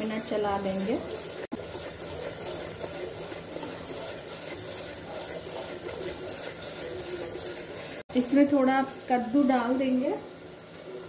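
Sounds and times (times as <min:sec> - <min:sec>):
masala sizzling in a pot: 0:00.0 - 0:11.0
spatula stirring: 0:00.0 - 0:11.0.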